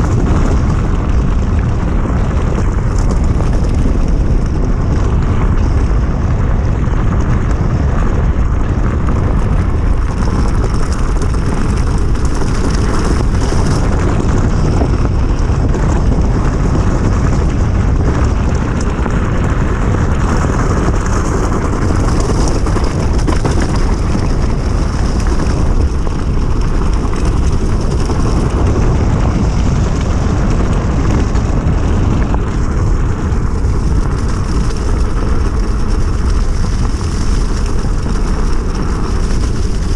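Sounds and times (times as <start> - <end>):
electric motorbike rolling noise: 0.0 - 39.9
wind rush while riding: 0.0 - 39.9.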